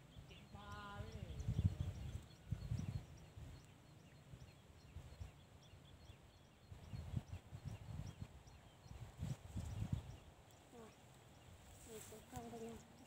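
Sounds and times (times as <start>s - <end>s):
faint high chirping: 0.0s - 13.0s.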